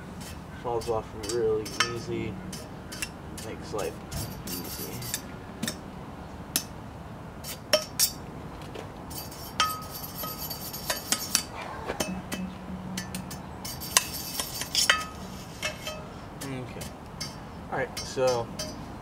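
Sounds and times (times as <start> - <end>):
wire brush scraping metal: 0.0 - 5.8, 7.4 - 8.2, 9.1 - 18.9
brush clinking on metal tubes: 0.2 - 5.8, 9.1 - 19.0.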